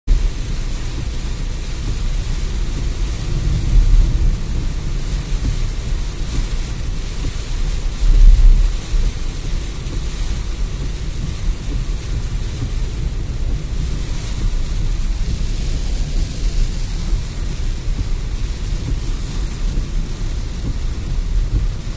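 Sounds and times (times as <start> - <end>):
car rumble: 0.1 - 21.9
heavy rain on car: 0.1 - 21.9.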